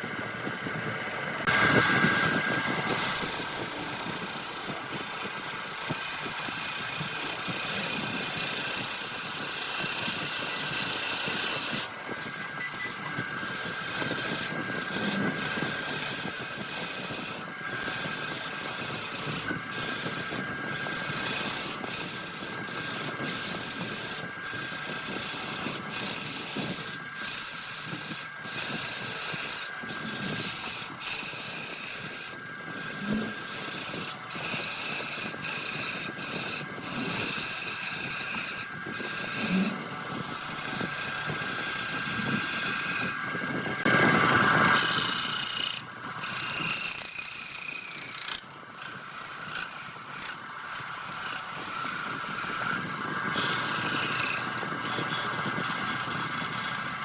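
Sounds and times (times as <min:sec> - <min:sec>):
tool scraping spinning wood: 0:00.0 - 0:57.0
wood lathe motor whine: 0:00.0 - 0:57.0.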